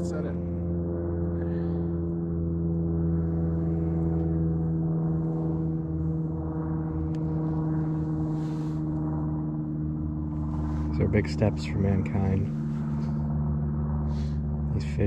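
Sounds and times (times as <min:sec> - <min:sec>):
machine humming steadily: 0:00.0 - 0:15.0.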